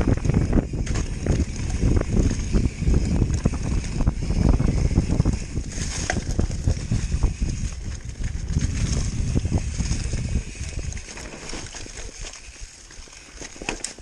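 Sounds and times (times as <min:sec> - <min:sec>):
bike knocking and rattling: 0:00.0 - 0:14.0.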